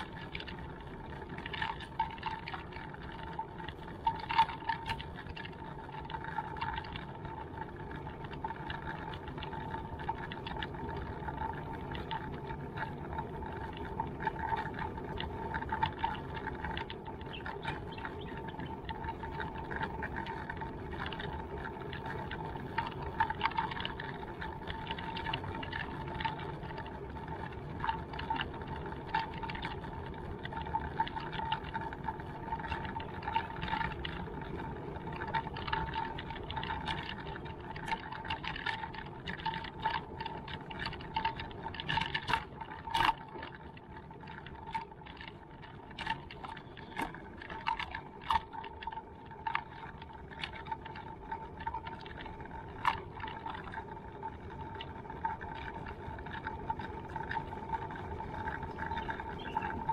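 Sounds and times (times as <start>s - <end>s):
small clicks and knocks: 0.0s - 59.9s
wheels rolling on pavement: 0.0s - 59.9s.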